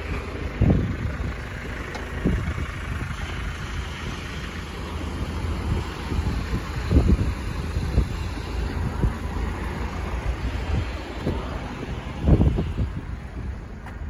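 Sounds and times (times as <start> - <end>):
steady low rumble: 0.0 - 14.0
wind buffeting microphone: 0.0 - 14.0.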